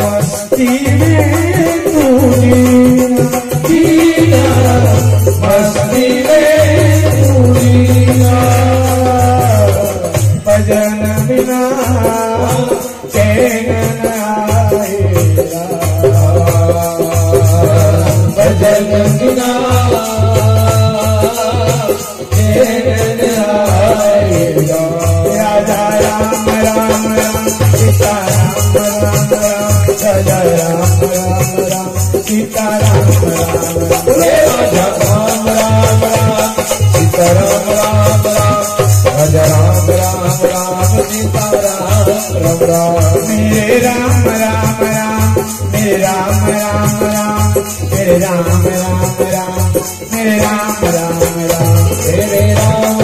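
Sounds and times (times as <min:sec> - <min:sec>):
rattling percussion rhythm: 0:00.0 - 0:53.0.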